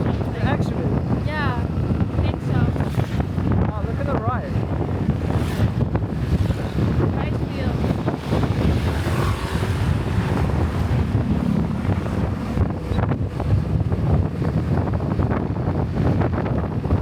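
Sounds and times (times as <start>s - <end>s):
vehicle travelling on road: 0.0s - 17.0s
wind buffeting microphone: 0.0s - 17.0s.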